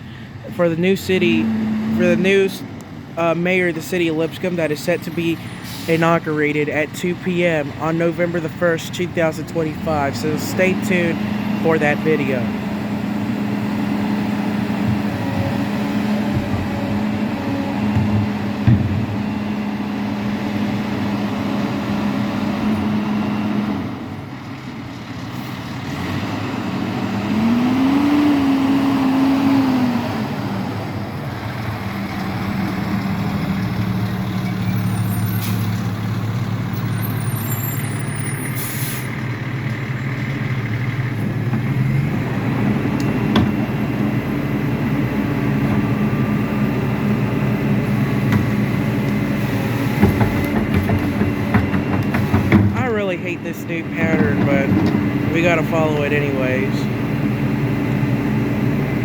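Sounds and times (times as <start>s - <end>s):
garbage truck diesel engine: 0.0s - 59.0s.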